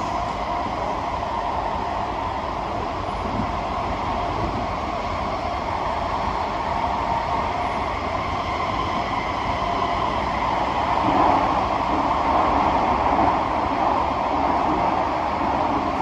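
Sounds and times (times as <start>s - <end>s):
rumble of train wheels on rail: 0.0s - 16.0s.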